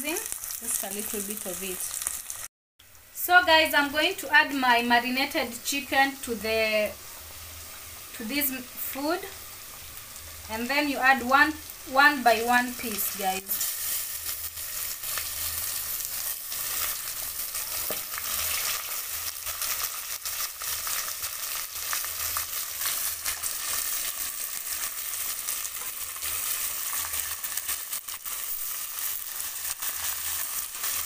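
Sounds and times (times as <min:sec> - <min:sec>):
chicken sizzling in hot oil: 0:00.0 - 0:03.1, 0:03.7 - 0:31.0.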